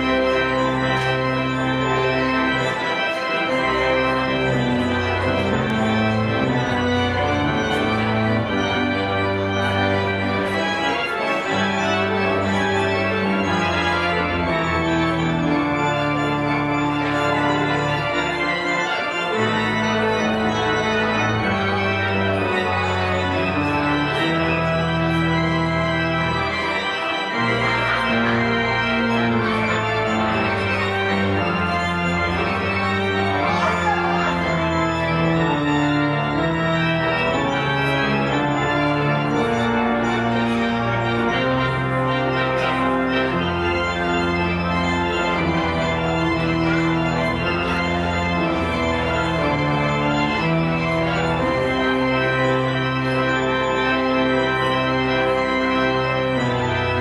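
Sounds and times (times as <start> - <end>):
organ playing sustained chords: 0.0 - 57.0.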